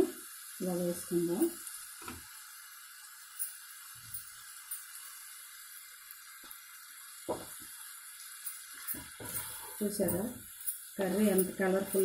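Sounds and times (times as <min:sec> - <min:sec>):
gourd sizzling in a pan: 0:00.0 - 0:12.0.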